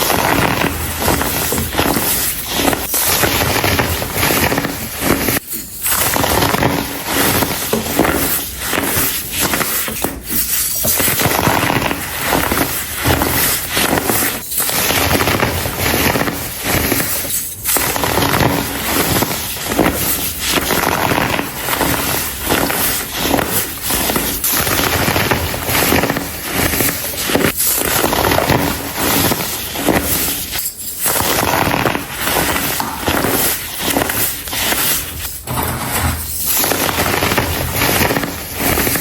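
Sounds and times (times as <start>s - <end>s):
crumbly solid crunching and crackling: 0.0s - 39.0s.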